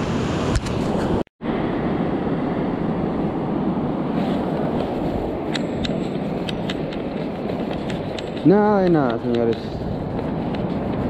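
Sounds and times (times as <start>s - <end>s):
ocean surf roar: 0.0s - 11.0s
wind: 0.0s - 11.0s.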